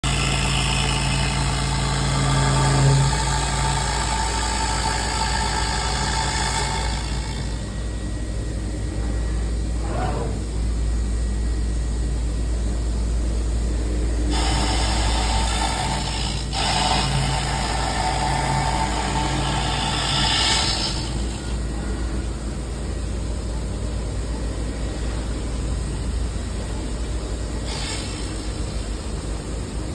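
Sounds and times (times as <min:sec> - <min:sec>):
low machine hum: 0:00.0 - 0:29.9.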